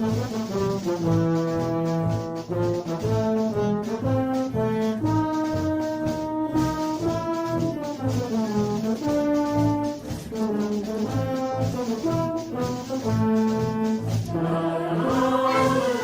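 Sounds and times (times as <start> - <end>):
brass instrumental music: 0.0 - 16.0.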